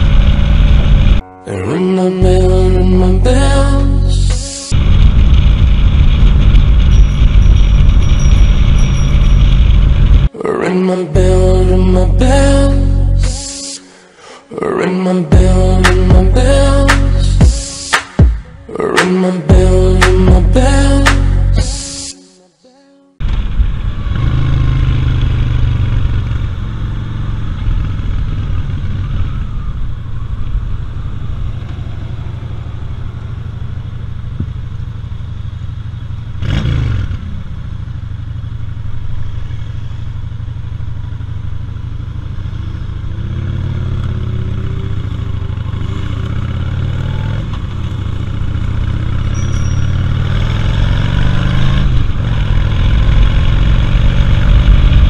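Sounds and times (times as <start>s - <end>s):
motorcycle engine running: 0.0s - 1.2s, 4.1s - 10.3s, 15.3s - 21.6s, 23.2s - 55.0s.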